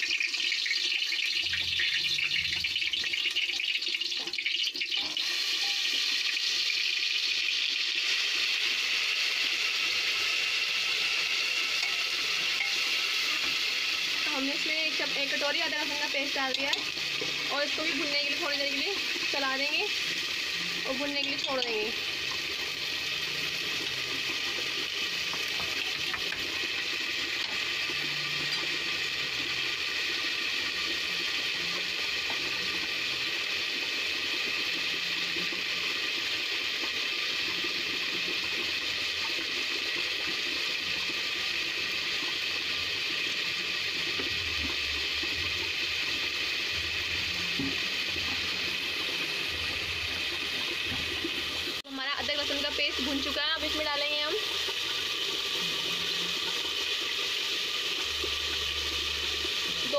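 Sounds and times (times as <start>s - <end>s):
garlic sizzling in oil: 0.0s - 59.9s.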